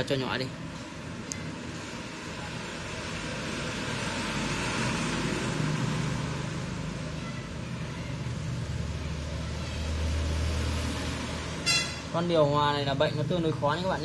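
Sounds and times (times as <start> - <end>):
road traffic hiss: 0.0 - 14.0
vehicle engines droning: 0.0 - 14.0.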